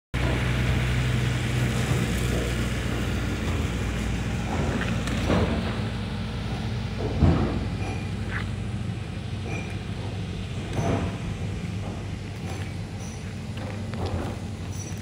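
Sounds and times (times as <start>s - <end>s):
engine running low rumble: 0.2s - 15.0s.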